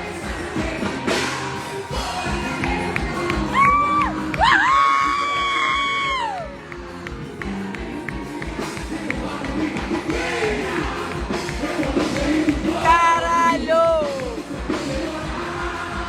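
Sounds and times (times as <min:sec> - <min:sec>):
loud amplified music with beat: 0:00.0 - 0:16.0
person singing: 0:00.0 - 0:16.0.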